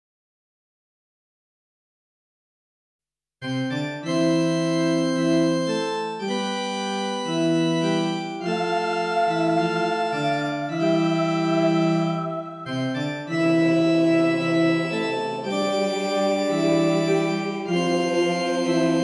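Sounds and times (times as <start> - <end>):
synthesised church organ chords: 3.4 - 19.0.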